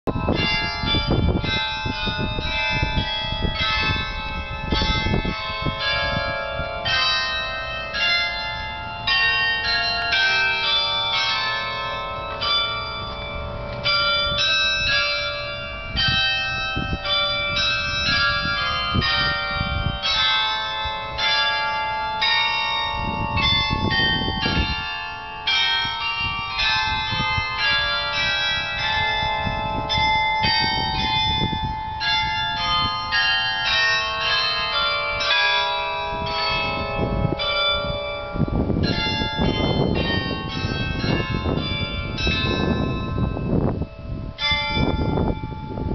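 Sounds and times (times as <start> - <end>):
church bells ringing: 0.1 - 45.9.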